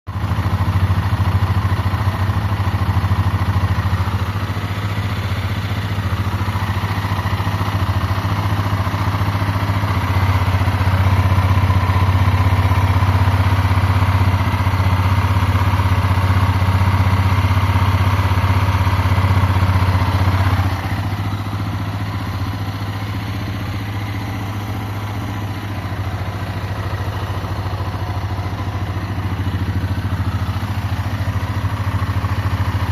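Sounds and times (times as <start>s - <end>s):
motorcycle engine running: 0.1s - 32.9s.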